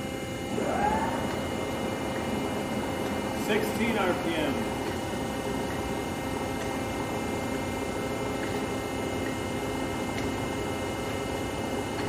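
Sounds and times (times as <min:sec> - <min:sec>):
lathe mechanical hum: 0:00.0 - 0:12.0.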